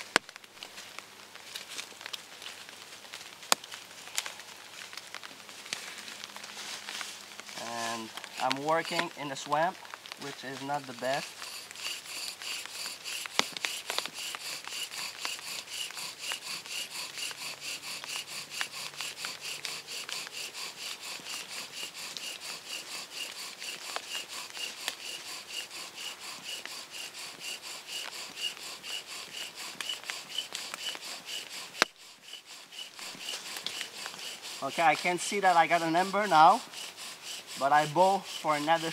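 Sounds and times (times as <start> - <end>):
bow drill squeaking strokes: 7.6 - 38.9.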